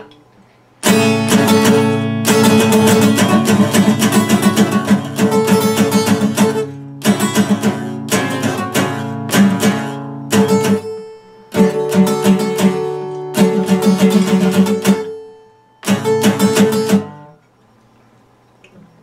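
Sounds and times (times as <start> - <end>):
acoustic guitar strumming: 0.8 - 17.4.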